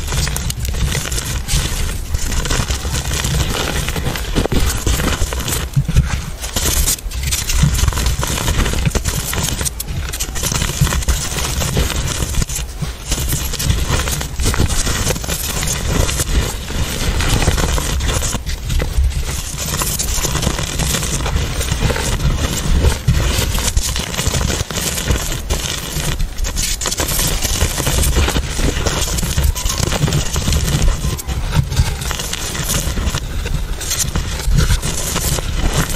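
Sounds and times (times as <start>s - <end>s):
chalk crunching: 0.0s - 35.9s.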